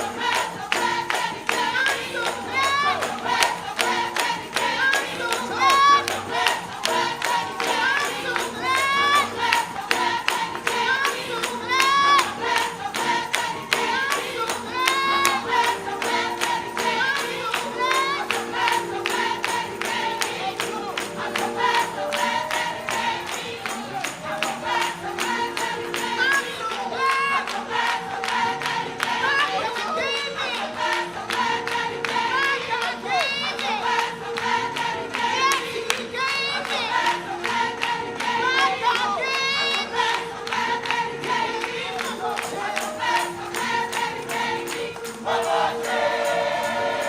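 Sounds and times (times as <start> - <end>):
keyboard chords: 0.0 - 47.0.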